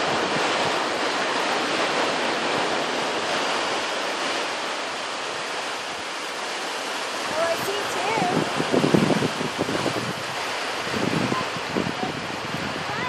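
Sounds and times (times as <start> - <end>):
surf on a sandy beach: 0.0 - 13.0.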